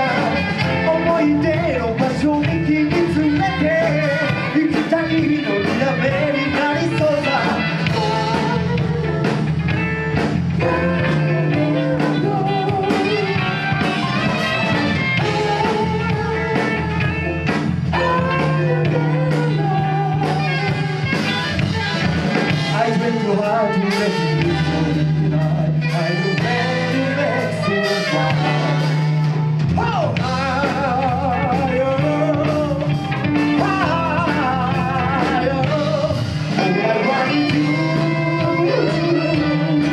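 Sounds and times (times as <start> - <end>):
live band playing: 0.0 - 39.9
steady bass line: 0.0 - 39.9
wavering lead melody: 0.0 - 39.9.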